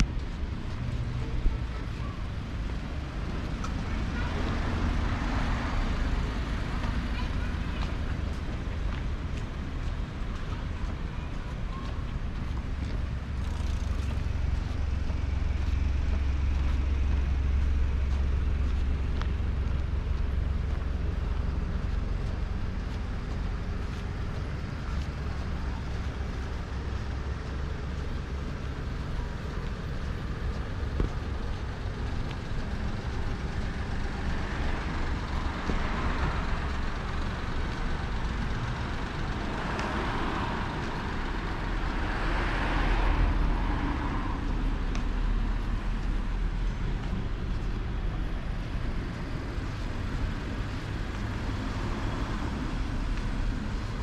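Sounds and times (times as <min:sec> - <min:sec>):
low traffic rumble: 0:00.0 - 0:54.0
vehicles passing: 0:00.0 - 0:54.0.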